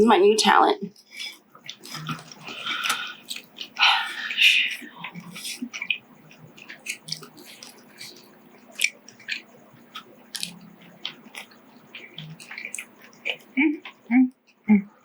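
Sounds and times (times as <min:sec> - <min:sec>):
person chewing noodles: 0:00.9 - 0:14.7.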